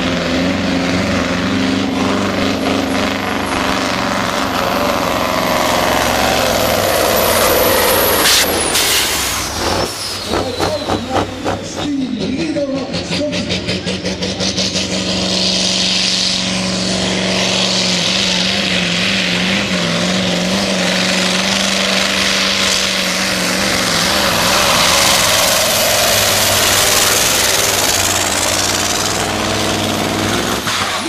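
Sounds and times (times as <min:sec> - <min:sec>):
diesel engine running flat out: 0:00.0 - 0:31.0.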